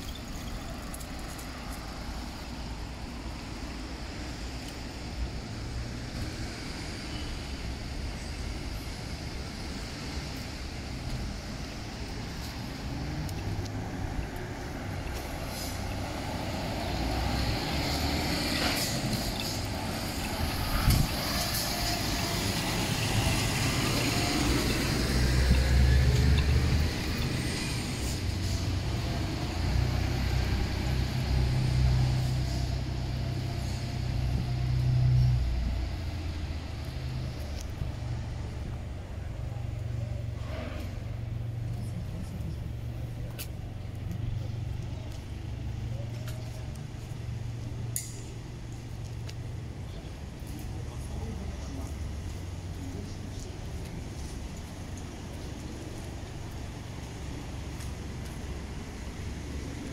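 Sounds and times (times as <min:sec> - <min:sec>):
rumble of passing vehicles: 0:00.0 - 0:59.9.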